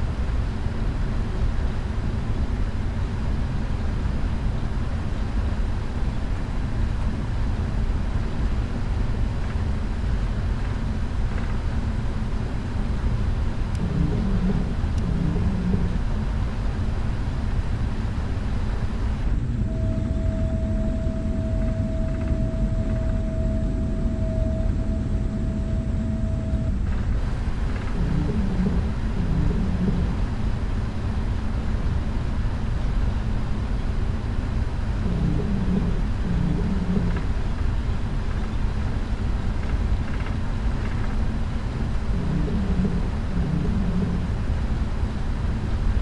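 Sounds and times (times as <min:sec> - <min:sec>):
aircraft cabin engine rumble: 0:00.0 - 0:46.0.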